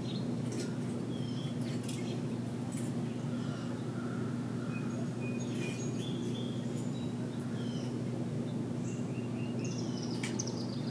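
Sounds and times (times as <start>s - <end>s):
songbirds chirping: 0.0s - 10.9s
steady low hum: 0.0s - 10.9s.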